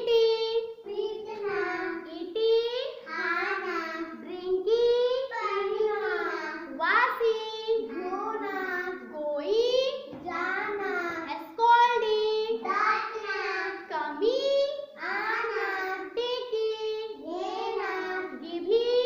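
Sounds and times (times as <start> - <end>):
children singing a chant: 0.0 - 19.0.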